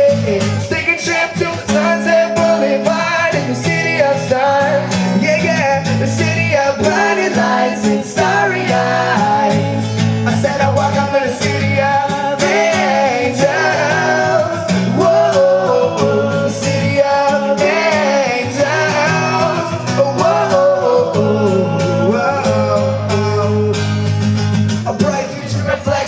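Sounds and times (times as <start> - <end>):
man singing: 0.0 - 24.1, 24.8 - 26.0
strummed acoustic guitar: 0.0 - 26.0.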